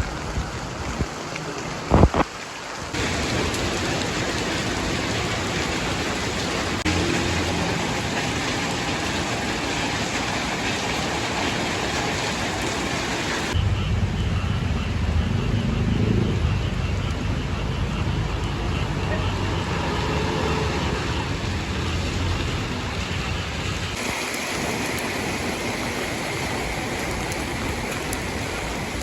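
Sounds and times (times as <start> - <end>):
heavy rain hiss: 0.0 - 14.7, 18.0 - 29.0
road traffic noise: 2.9 - 29.0.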